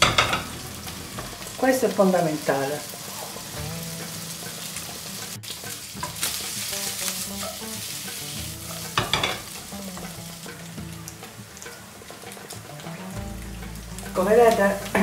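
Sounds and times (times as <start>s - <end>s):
meat sizzling in frying pan: 0.0s - 15.0s
stirring in pan: 0.0s - 15.0s.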